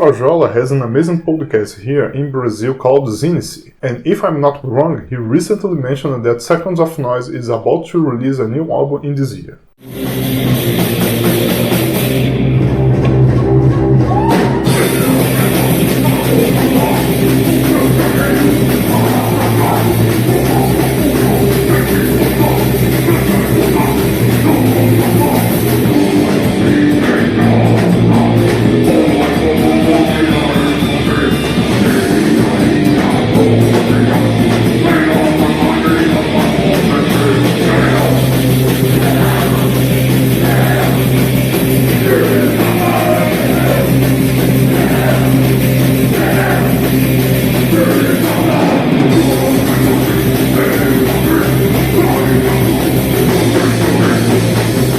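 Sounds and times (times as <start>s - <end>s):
metal vocals: 0.0s - 54.9s
bass guitar: 9.8s - 54.9s
distorted electric guitars: 9.8s - 54.9s
drum kit: 9.8s - 54.9s.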